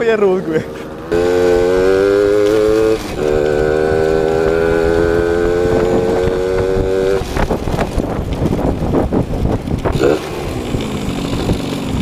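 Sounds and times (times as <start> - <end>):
moped engine running: 0.1 - 12.0.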